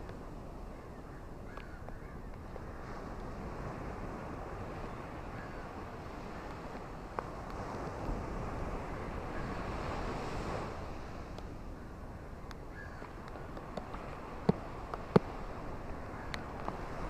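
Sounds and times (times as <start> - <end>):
ocean surf: 2.4 - 17.0.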